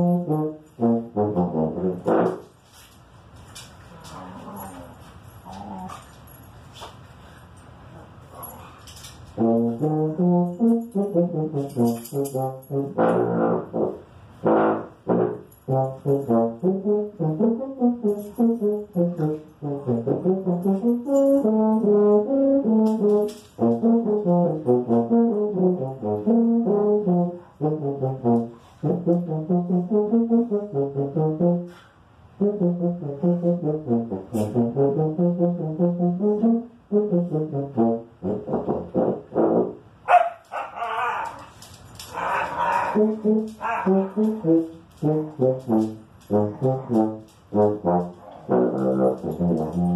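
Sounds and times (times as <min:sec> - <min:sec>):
low brass instrument melody: 0:00.0 - 0:02.8, 0:09.0 - 0:40.0, 0:42.9 - 0:49.9.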